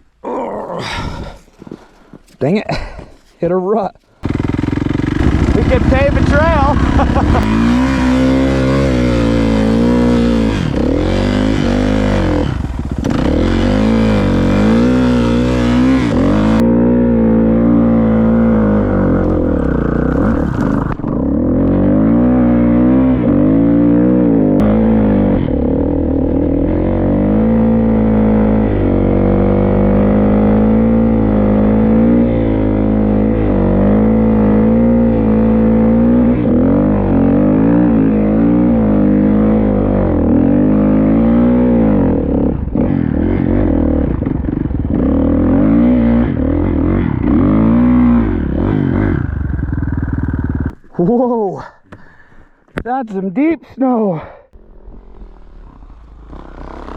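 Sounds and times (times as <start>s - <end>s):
dirt bike engine revving: 4.2s - 51.3s, 54.6s - 56.9s.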